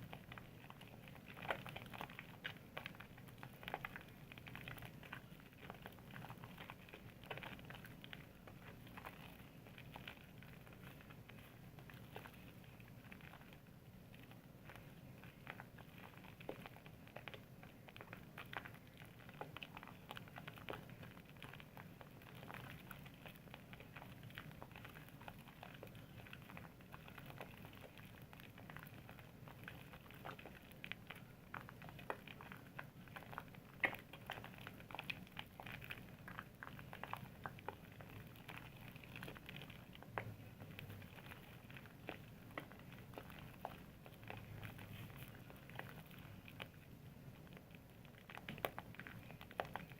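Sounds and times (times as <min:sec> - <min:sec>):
soap lather squishing: 0:00.0 - 0:49.9.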